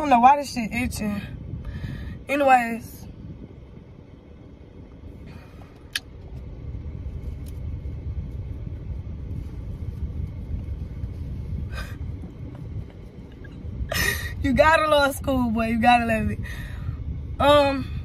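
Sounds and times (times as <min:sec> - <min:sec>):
car rumble: 0:00.0 - 0:18.0.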